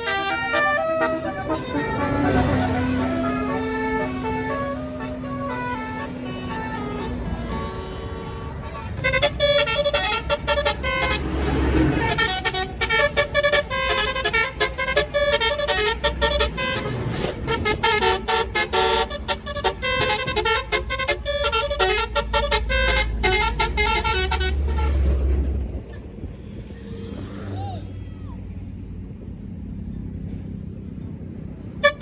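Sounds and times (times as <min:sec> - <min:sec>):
bus horn playing fast melody: 0:00.0 - 0:25.4, 0:31.7 - 0:32.0
bus engine rumble: 0:00.0 - 0:32.0.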